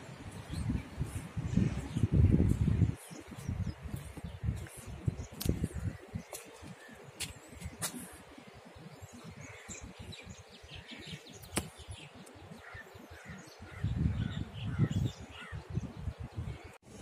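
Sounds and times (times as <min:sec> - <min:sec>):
wind rumble on microphone: 0:00.0 - 0:17.0
birds chirping: 0:00.1 - 0:16.8.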